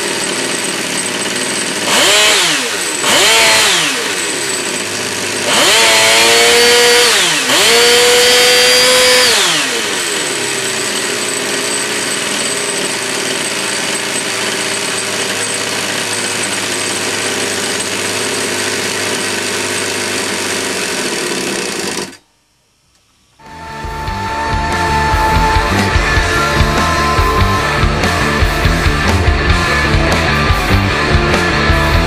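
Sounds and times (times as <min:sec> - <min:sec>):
model engine revving and idling: 0:00.0 - 0:22.2, 0:23.4 - 0:32.0.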